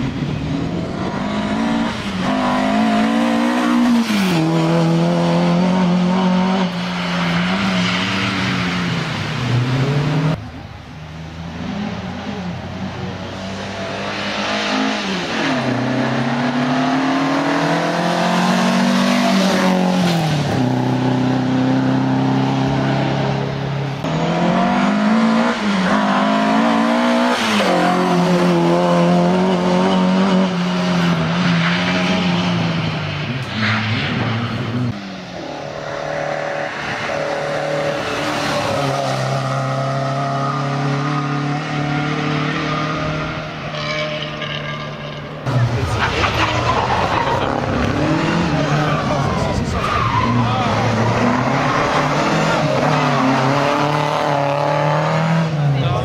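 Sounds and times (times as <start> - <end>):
rally car engine revving: 0.0 - 10.4, 11.5 - 56.0.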